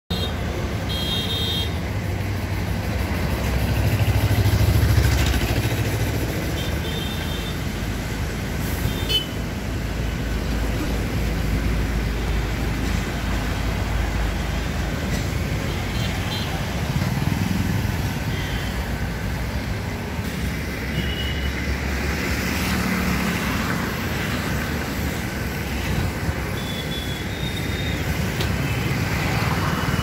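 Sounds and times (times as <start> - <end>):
vehicle engine rumbling: 0.1 - 30.0.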